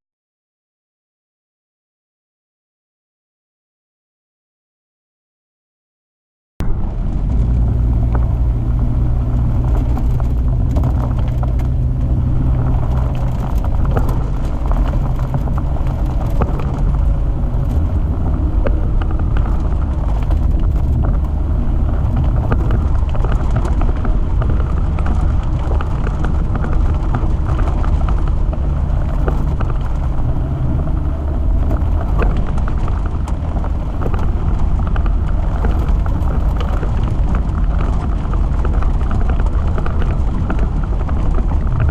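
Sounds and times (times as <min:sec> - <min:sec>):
vehicle engine and drivetrain rumble: 0:06.6 - 0:41.9
small knocks and rattles: 0:07.2 - 0:41.9.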